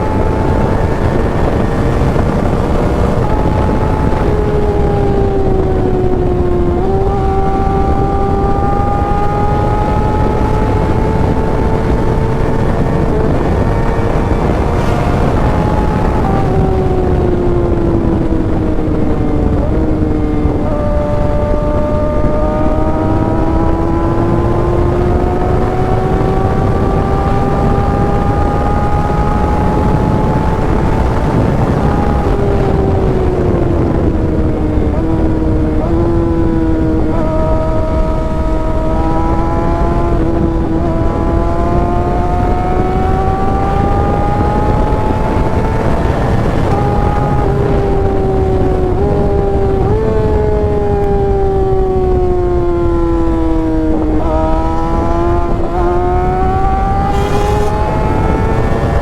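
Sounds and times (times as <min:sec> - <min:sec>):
motorcycle engine at speed: 0:00.0 - 0:59.0
wind and road noise: 0:00.0 - 0:59.0.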